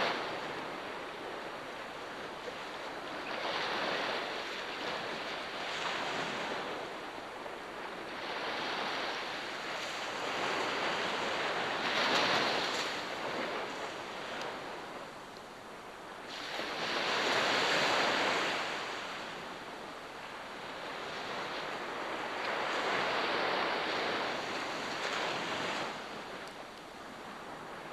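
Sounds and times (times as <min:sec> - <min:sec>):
sea waves breaking on shore: 0:00.0 - 0:27.9.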